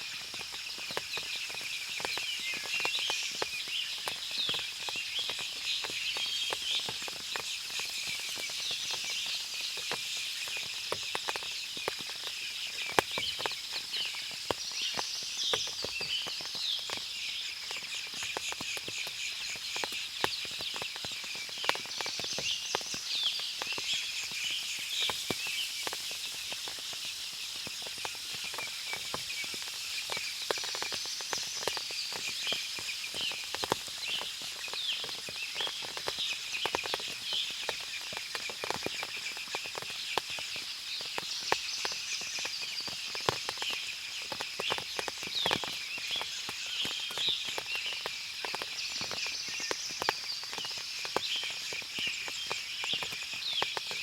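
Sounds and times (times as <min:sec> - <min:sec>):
birds chirping: 0:00.0 - 0:54.0
small clicks and drips: 0:00.0 - 0:54.0.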